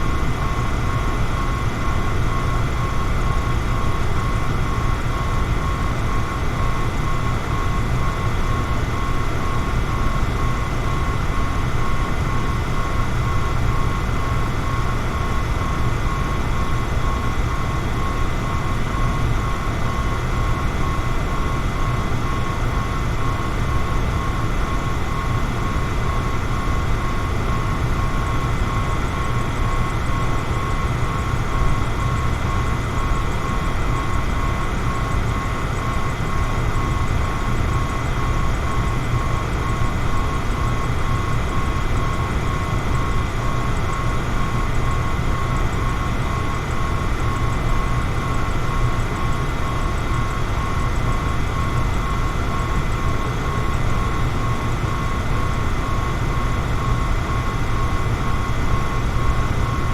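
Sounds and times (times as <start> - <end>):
fan running: 0.0 - 59.9.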